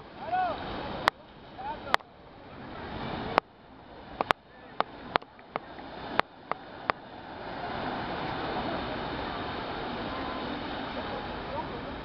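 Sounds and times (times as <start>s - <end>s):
waves washing onto beach: 0.0s - 12.0s.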